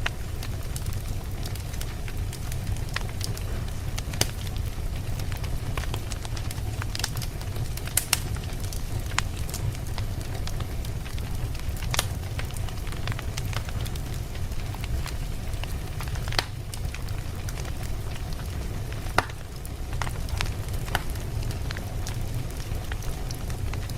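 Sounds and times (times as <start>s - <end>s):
campfire rumble: 0.0s - 23.9s
wood crackling and popping: 0.0s - 23.9s.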